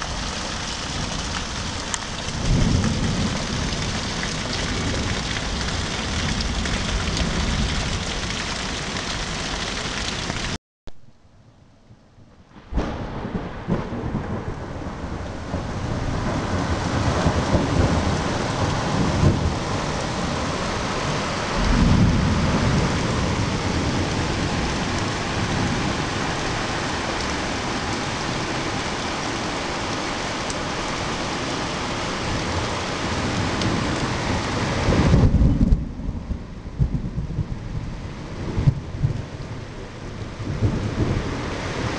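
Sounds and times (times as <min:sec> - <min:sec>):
heavy rain falling: 0:00.0 - 0:10.6, 0:12.6 - 0:41.9
thunder rumbling: 0:00.0 - 0:10.6, 0:12.6 - 0:41.9.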